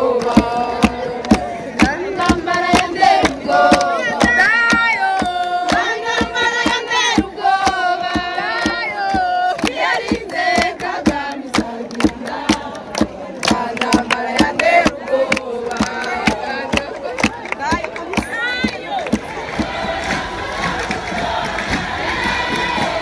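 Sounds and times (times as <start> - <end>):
crowd singing: 0.0 - 23.0
rhythmic hand clapping: 0.0 - 23.0.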